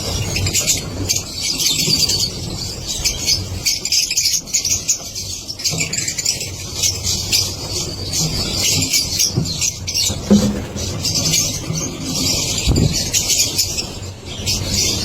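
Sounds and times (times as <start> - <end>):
lovebirds chirping in chorus: 0.0 - 15.0.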